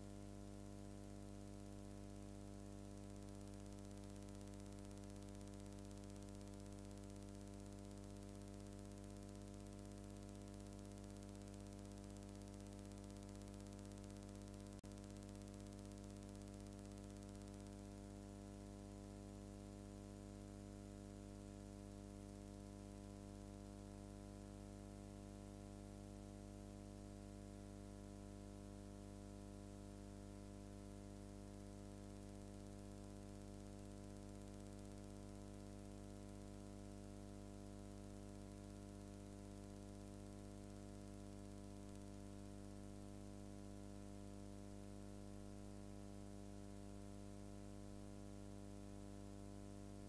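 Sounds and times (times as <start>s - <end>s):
faint hiss: 0.0s - 48.6s
low electrical hum: 0.0s - 50.0s.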